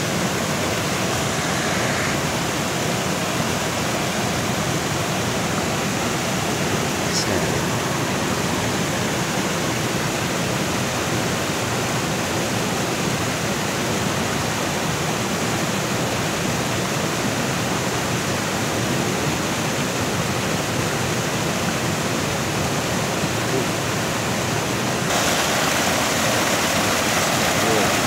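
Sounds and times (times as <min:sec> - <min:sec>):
waterfall and stream rushing: 0:00.0 - 0:28.0.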